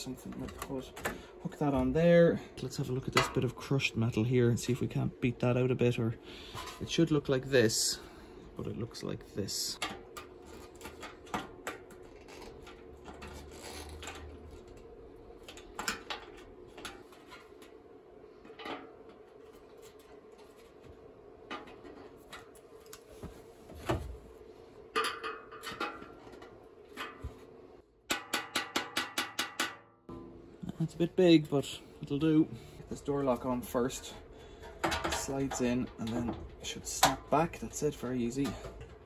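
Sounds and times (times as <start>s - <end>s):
steady hum: 0.0s - 28.4s, 30.0s - 39.0s.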